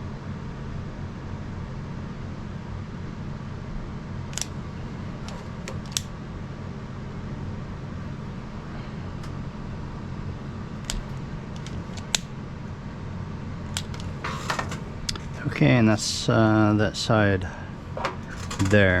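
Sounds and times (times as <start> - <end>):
fan humming: 0.0 - 19.0.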